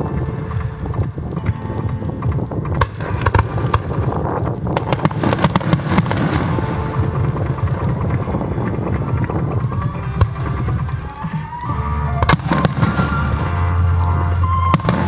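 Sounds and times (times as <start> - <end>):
crackling firework shells: 0.0 - 15.0
fireworks booming: 0.0 - 15.0
sharp firework cracks: 0.0 - 15.0.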